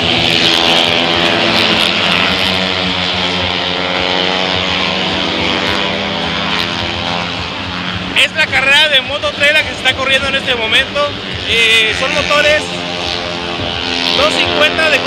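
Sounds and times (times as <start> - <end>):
racing motorcycle engines at high revs: 0.0 - 15.0.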